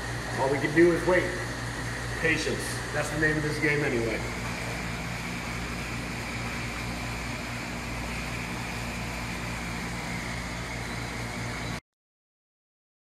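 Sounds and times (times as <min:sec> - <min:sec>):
aquarium equipment hum and hiss: 0:00.0 - 0:11.8.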